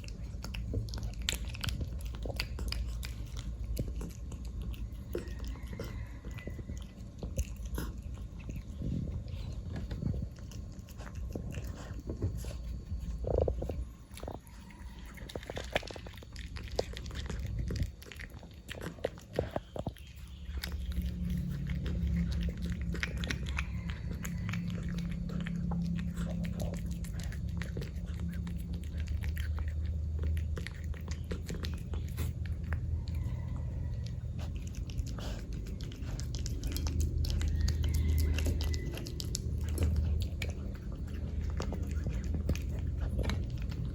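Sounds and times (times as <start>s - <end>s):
cat chewing wet food: 0.0s - 43.9s
steady low rumble: 0.0s - 43.9s.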